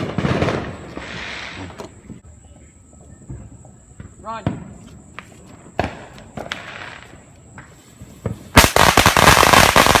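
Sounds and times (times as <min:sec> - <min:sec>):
firecrackers banging: 0:00.0 - 0:02.2, 0:03.3 - 0:10.0.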